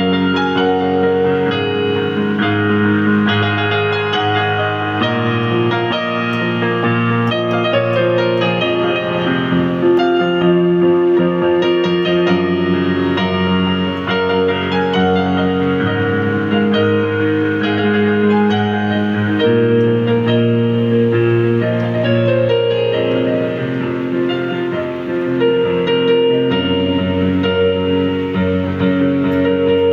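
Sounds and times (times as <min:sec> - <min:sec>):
synthesizer keyboard melody: 0:00.0 - 0:29.9.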